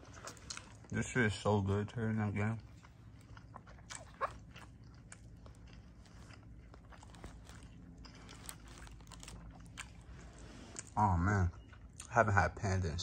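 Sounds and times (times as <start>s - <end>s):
person chewing food: 0.0s - 1.2s, 2.2s - 12.1s.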